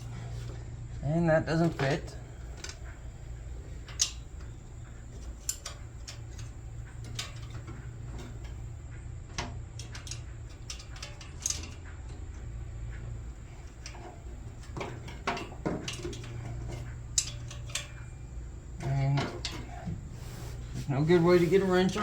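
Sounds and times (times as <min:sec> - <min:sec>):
steady low hum: 0:00.0 - 0:22.0
hand tools clicking and clinking: 0:01.5 - 0:22.0.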